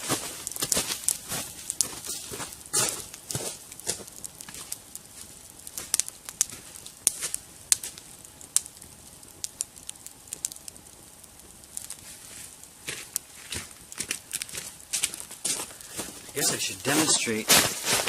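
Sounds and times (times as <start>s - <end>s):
sharp fire pops: 0.0s - 12.2s, 12.8s - 18.0s
burning brush crackling: 0.0s - 18.0s
faint hiss: 0.0s - 18.0s.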